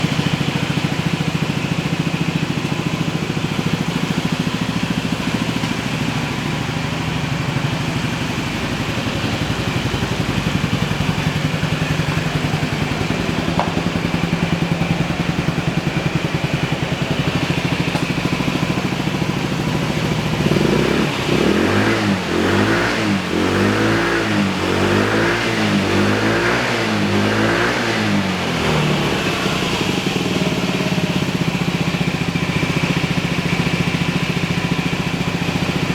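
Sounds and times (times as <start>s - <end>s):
scooter engine idling and revving: 0.0s - 35.9s.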